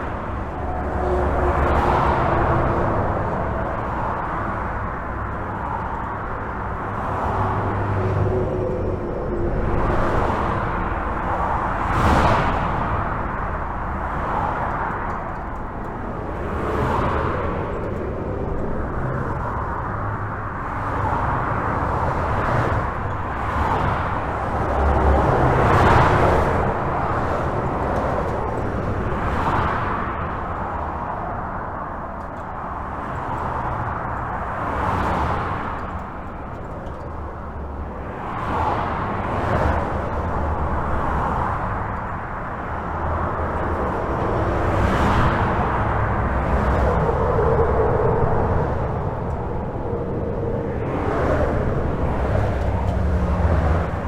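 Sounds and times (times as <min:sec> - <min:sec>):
highway traffic rumble: 0:00.0 - 0:54.0
vehicles passing: 0:00.0 - 0:54.0.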